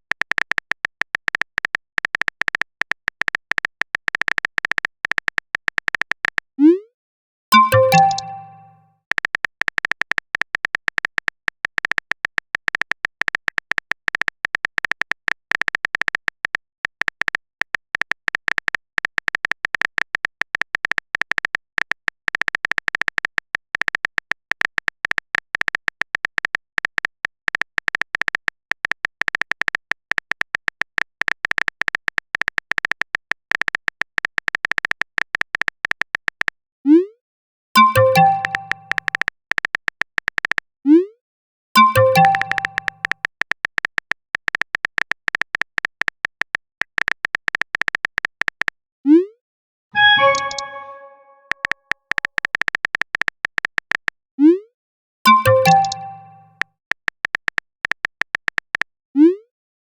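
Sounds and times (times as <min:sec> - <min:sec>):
phone keyboard typing clicks: 0:00.0 - 0:06.5, 0:07.6 - 0:36.6, 0:37.8 - 0:40.7, 0:41.8 - 0:48.8, 0:50.0 - 0:54.2, 0:55.3 - 0:58.9.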